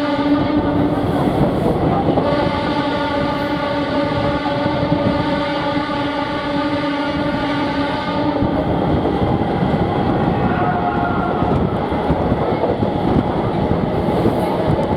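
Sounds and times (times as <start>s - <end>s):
train wheels rattling on rails: 0.0s - 14.9s.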